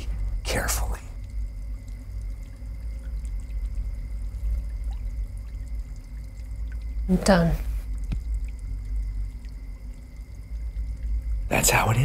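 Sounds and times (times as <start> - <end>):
faint background hiss: 0.0 - 12.0
steady low hum: 0.0 - 12.0.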